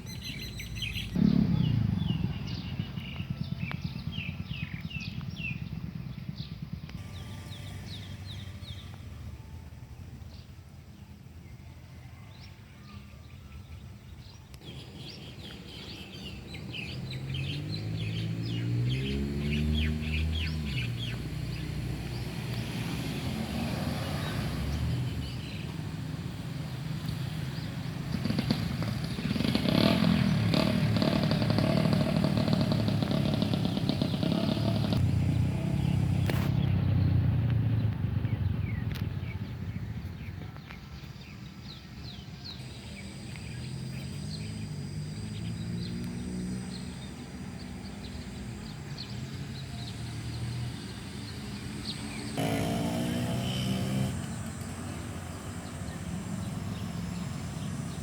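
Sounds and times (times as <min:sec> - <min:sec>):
birds chirping: 0:00.0 - 0:58.0
vehicle engine passing: 0:00.2 - 0:09.4, 0:14.6 - 0:58.0.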